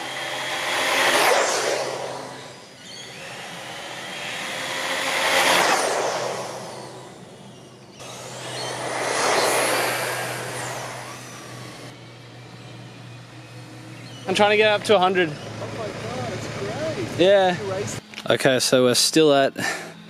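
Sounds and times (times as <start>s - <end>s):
rc buggy speeding past: 0.0s - 18.0s.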